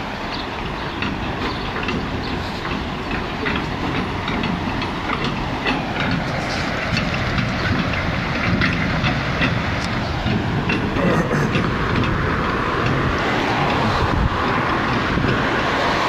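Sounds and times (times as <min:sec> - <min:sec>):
floodwater rushing: 0:02.1 - 0:16.0.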